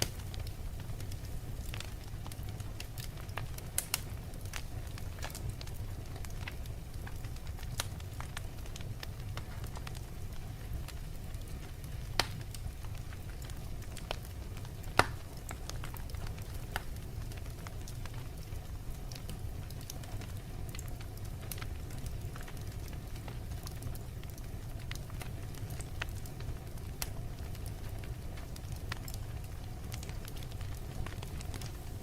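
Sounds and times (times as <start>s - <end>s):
fireplace fire crackling: 0.0s - 32.0s
sharp pops from fire: 0.0s - 32.0s.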